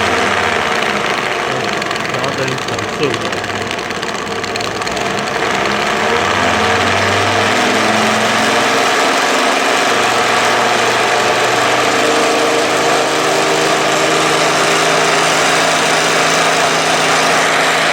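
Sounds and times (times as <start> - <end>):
belt sander running: 0.0 - 17.9.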